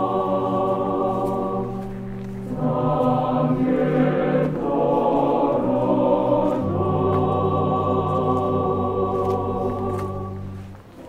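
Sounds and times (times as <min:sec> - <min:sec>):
choir singing sustained chords: 0:00.0 - 0:11.0.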